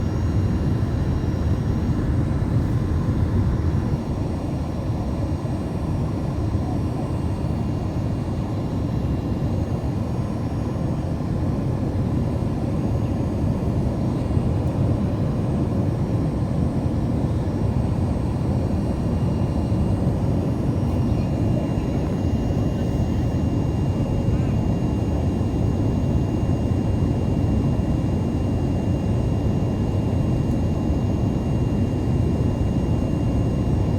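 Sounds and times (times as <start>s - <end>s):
airliner cabin engine rumble: 0.0s - 33.9s
faint steady whine: 0.0s - 33.9s.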